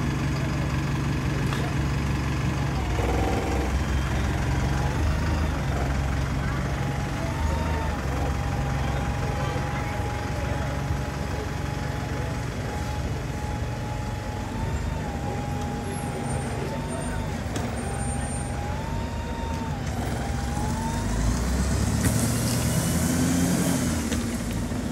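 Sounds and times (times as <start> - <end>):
bus diesel engine running: 0.0 - 24.9.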